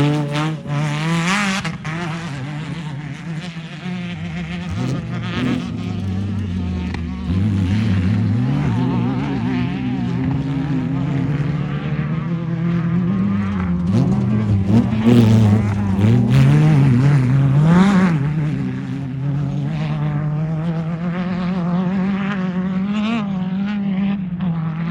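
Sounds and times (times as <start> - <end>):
race car engines revving: 0.0 - 24.9.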